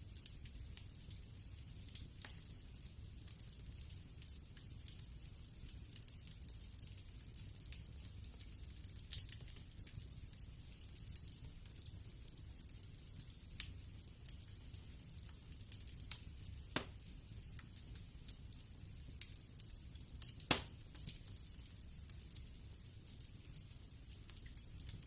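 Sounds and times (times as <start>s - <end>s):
low rumble of flames: 0.0s - 25.0s
wood fire pops and snaps: 0.1s - 25.0s.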